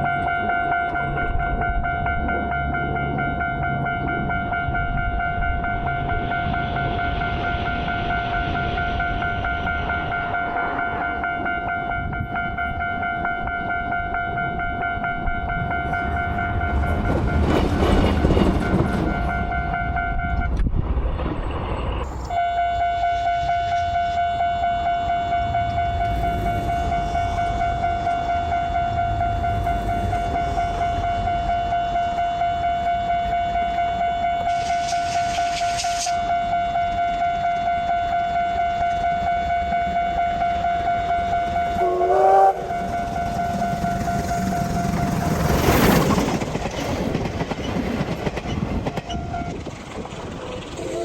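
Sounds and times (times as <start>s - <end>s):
level crossing warning bell: 0.0s - 20.6s, 22.2s - 49.8s
train passing: 0.0s - 51.0s.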